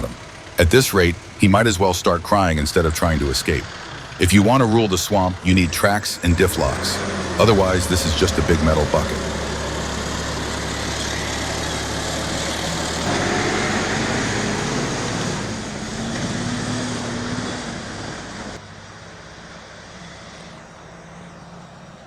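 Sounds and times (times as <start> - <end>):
heavy vehicle engine running: 0.0 - 22.0.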